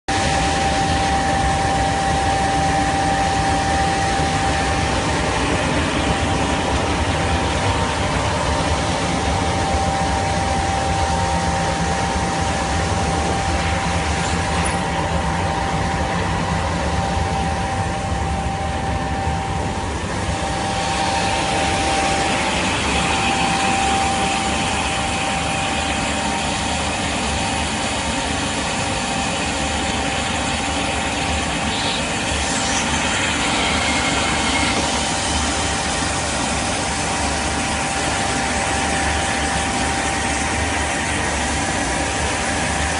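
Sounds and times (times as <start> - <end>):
high-pitched whine: 0.1 - 42.9
washing machine mechanical noise: 0.1 - 42.9.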